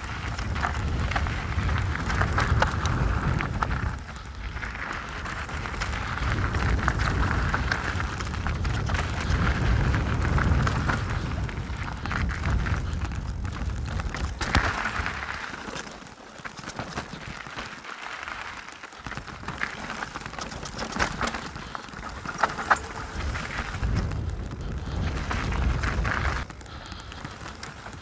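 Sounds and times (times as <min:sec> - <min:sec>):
wind rumble on microphone: 0:00.0 - 0:15.9, 0:19.0 - 0:28.0
bike clattering over rocks: 0:00.0 - 0:28.0.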